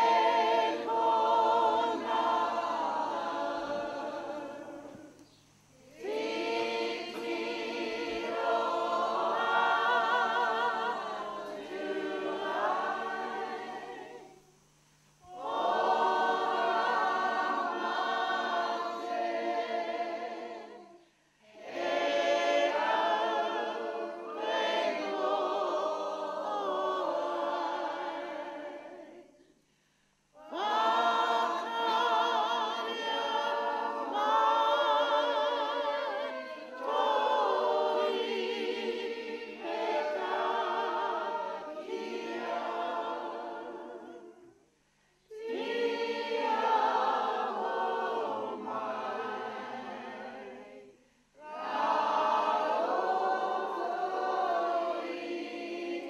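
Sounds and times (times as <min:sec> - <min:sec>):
group singing unaccompanied: 0:00.0 - 0:29.6, 0:30.3 - 0:56.0.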